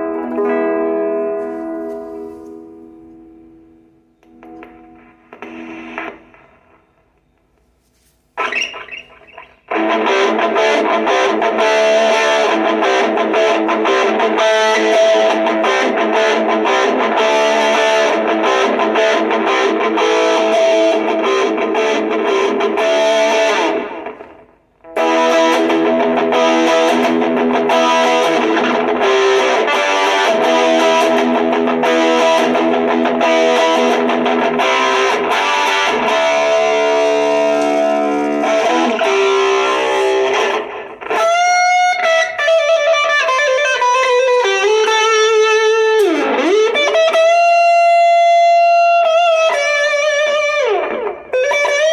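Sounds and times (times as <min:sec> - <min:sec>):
distorted electric guitar: 0:00.0 - 0:07.6, 0:08.4 - 0:51.9.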